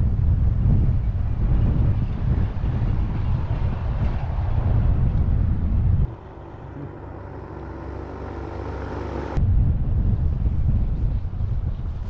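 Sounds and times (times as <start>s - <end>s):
distant engine droning: 0.0s - 11.7s
wind rumbling on camera: 0.0s - 12.0s.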